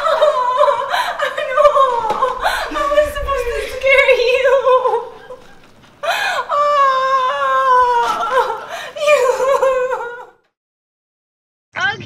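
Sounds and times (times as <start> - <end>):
woman wailing: 0.0 - 10.4.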